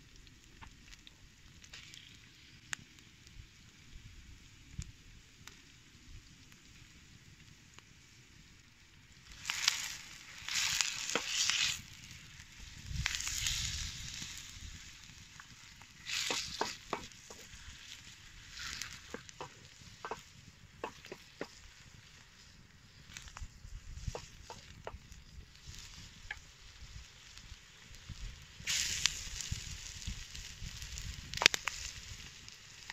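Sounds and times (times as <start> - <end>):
chicken and onion sizzling: 0.0 - 32.9.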